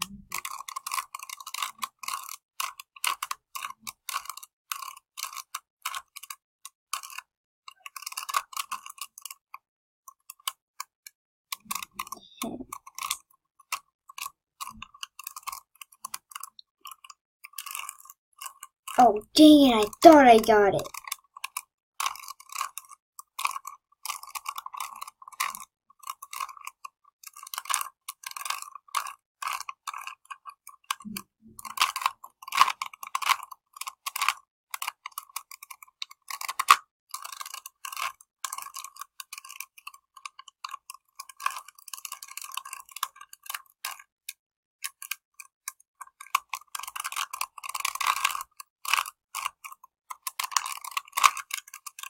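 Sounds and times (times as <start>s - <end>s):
puzzle cube twisting clicks: 0.3s - 6.4s, 7.0s - 7.2s, 7.8s - 9.4s, 11.5s - 30.2s, 30.9s - 44.0s, 46.2s - 52.0s.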